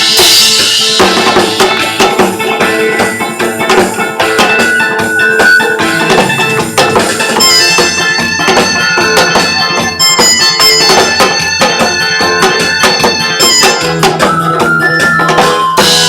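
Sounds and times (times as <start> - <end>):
instrumental melody line: 0.0 - 16.0
steady drum beat: 0.0 - 16.0.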